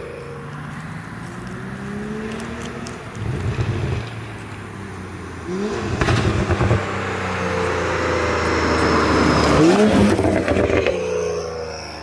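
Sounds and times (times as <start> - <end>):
car exhaust accelerating: 0.0 - 12.0.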